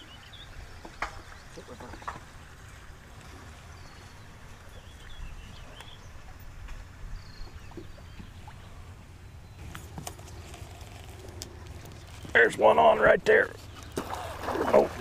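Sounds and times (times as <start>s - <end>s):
low steady rumble: 2.1s - 15.0s.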